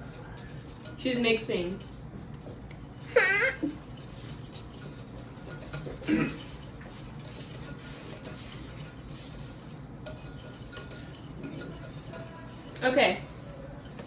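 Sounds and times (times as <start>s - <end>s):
whisk stirring in a bowl: 0.0s - 14.0s.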